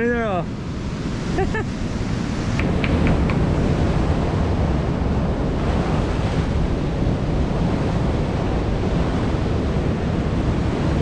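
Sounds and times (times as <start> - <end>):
heavy surf breaking over rocks: 0.0 - 11.0
wind buffeting microphone: 0.0 - 11.0.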